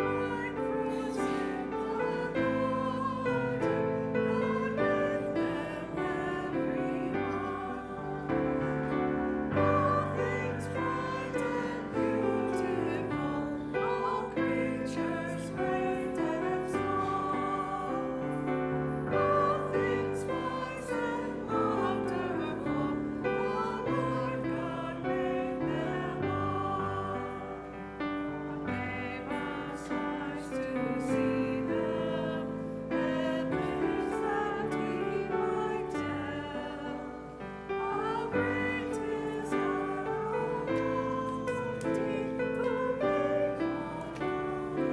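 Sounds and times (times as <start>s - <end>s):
hymn singing: 0.0s - 44.9s
piano chords: 0.0s - 44.9s.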